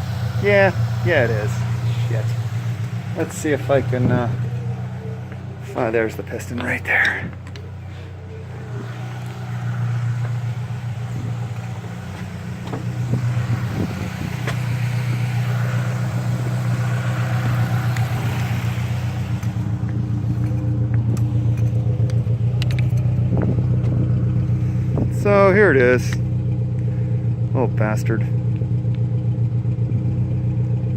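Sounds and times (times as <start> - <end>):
car engine idling rough: 0.0 - 30.9.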